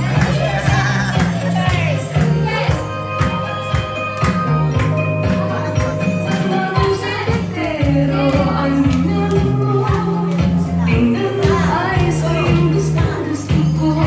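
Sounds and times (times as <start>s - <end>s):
music with steady beat and bass: 0.0s - 14.0s.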